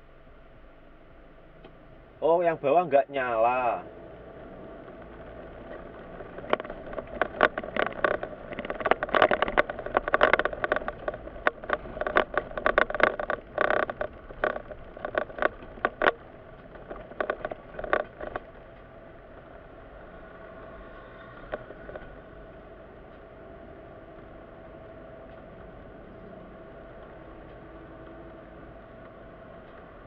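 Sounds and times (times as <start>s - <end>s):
car cabin road noise: 0.0s - 30.0s
sharp clicks and rattles: 3.2s - 30.0s.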